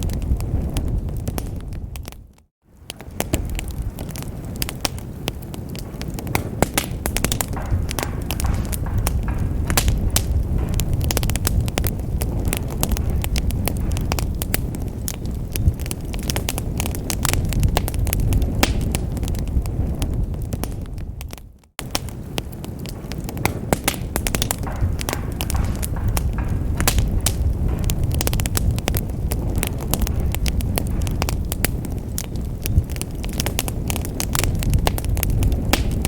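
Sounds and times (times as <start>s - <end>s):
fire crackling: 0.0s - 36.0s
low rumble of flames: 0.0s - 36.0s.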